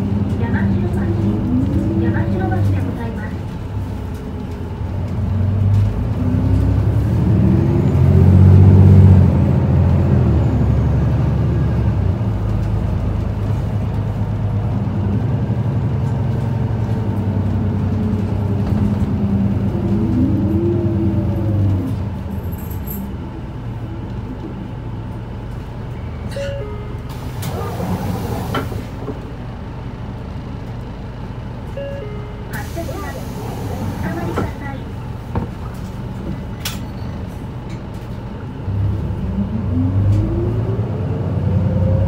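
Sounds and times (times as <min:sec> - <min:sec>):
bus diesel engine: 0:00.0 - 0:42.0.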